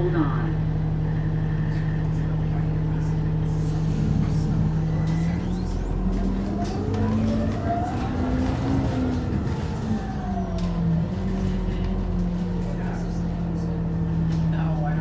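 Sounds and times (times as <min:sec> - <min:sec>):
bus diesel engine idling and accelerating: 0:00.0 - 0:15.0.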